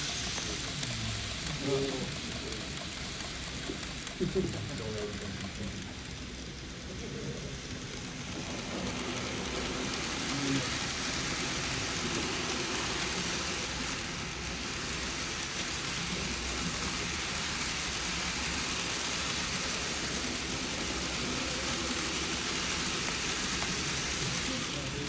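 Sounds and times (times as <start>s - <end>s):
model train rumbling on track: 0.0s - 25.0s.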